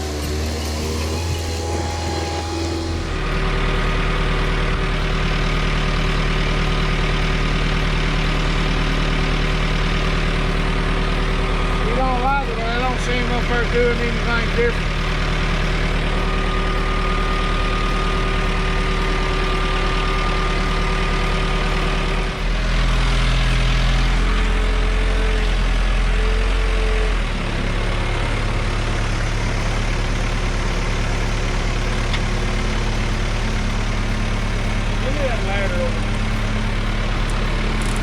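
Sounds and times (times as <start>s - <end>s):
heavy engine running: 0.0s - 38.0s.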